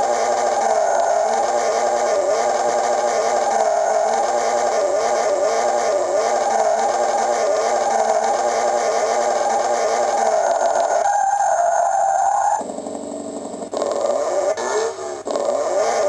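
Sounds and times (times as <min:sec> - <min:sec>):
synthetic engine sound rising and falling: 0:00.0 - 0:16.0
synthetic tyre squeal: 0:00.0 - 0:16.0.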